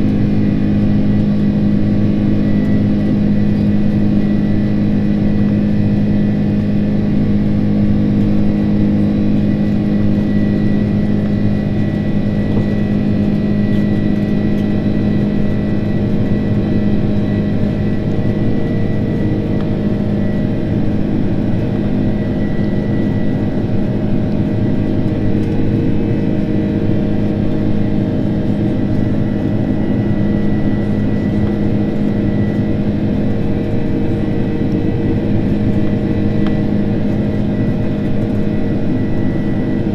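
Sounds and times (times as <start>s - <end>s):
high engine whine: 0.0s - 39.9s
jet engines droning: 0.0s - 39.9s.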